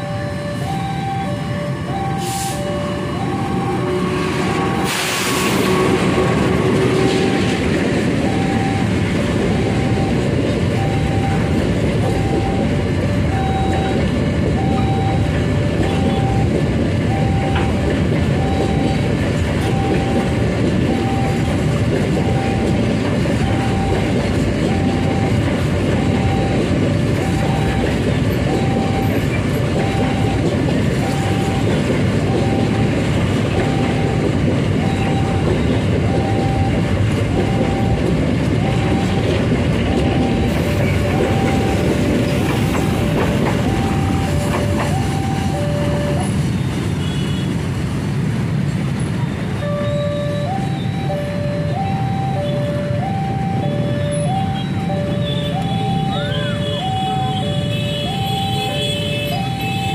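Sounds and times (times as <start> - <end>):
level crossing alarm tone: 0.0 - 47.1, 49.5 - 59.9.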